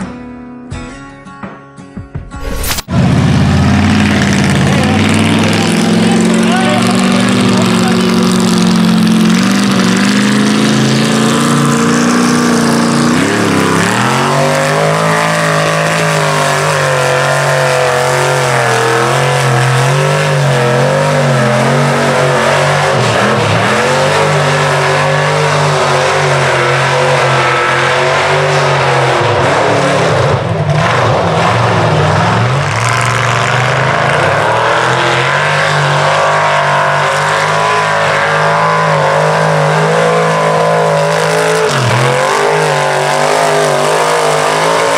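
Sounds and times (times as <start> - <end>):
truck engine running hard: 2.4 - 44.9.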